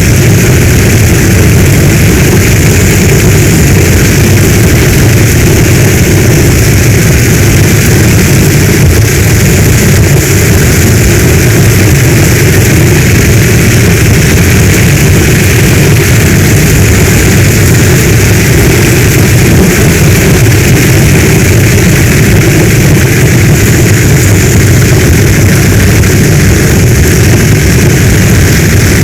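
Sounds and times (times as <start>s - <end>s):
heavy rain falling: 0.0s - 29.0s
low rumble: 0.0s - 29.0s.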